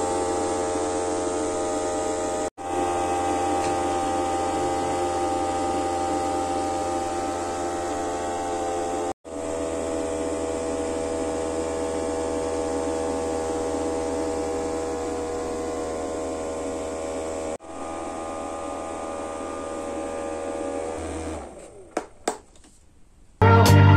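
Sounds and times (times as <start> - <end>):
small electric fan motor humming: 0.0 - 22.0.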